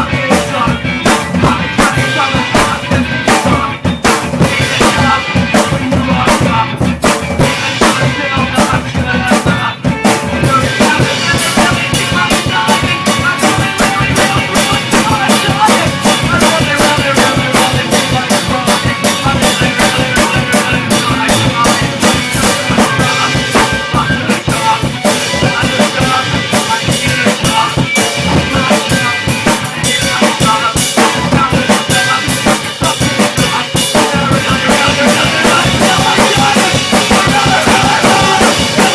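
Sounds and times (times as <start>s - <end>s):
bass and other instruments: 0.0s - 38.9s
drum kit beat: 0.0s - 38.9s.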